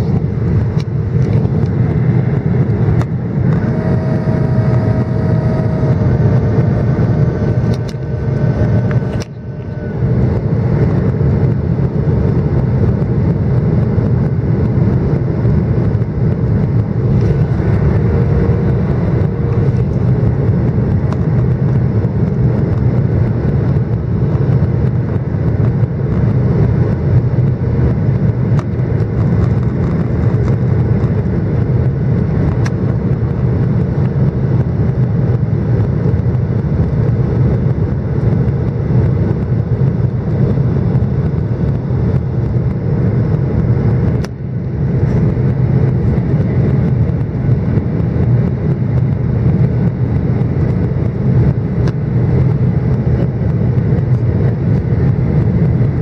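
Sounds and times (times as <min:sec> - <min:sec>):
airliner cabin engine rumble: 0:00.0 - 0:56.0
high whine: 0:00.0 - 0:56.0.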